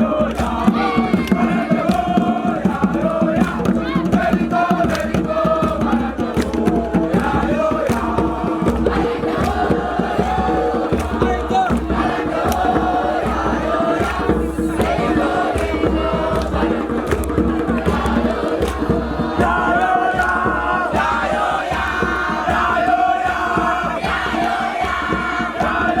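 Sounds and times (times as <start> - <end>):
sharp percussive hits: 0.0 - 26.0
young voices chanting and singing: 0.0 - 26.0.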